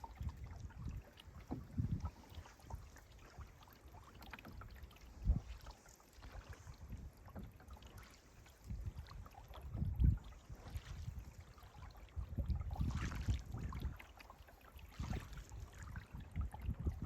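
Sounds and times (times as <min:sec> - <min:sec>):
paddle strokes in water: 0:00.0 - 0:17.0.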